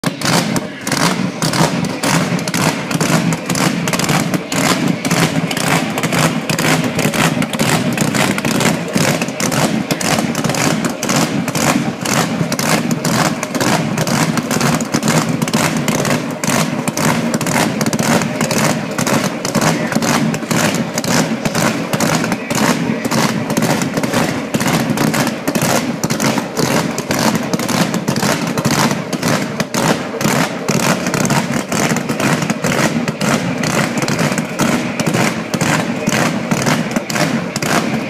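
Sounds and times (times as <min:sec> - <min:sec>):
engine revving: 0:00.0 - 0:38.0
exhaust bangs: 0:00.0 - 0:38.0.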